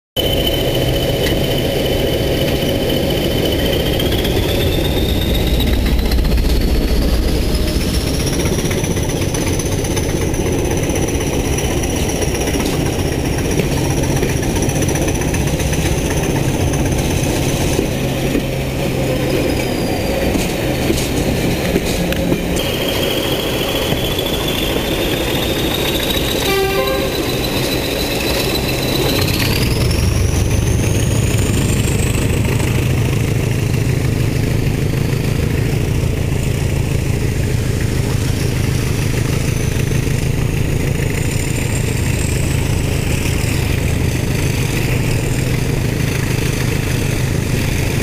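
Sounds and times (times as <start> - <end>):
diesel locomotive engines working: 0.2 - 48.0
high engine whine: 0.2 - 48.0.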